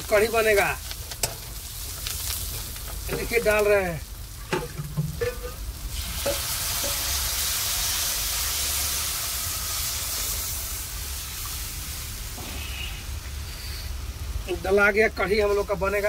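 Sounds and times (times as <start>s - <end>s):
batter sizzling in hot pan: 0.0s - 16.0s.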